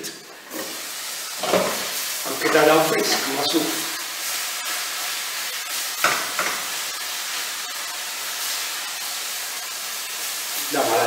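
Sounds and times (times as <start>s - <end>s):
vegetables sizzling in pan: 0.2s - 11.0s.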